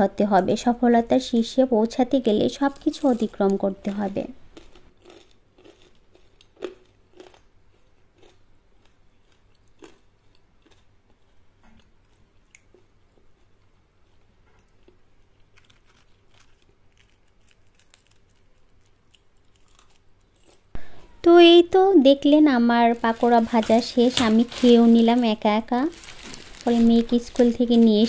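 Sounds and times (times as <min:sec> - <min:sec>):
chewing and crunching fried food: 0:02.4 - 0:20.8, 0:22.2 - 0:28.0.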